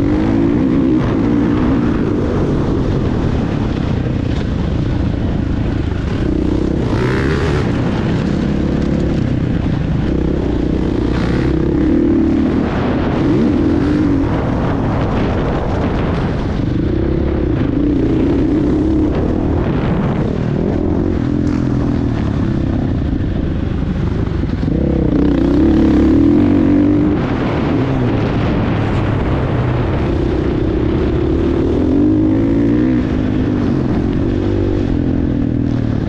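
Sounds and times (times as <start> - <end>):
motocross engine revving: 0.0 - 35.8
steady rush of noise: 0.0 - 36.0.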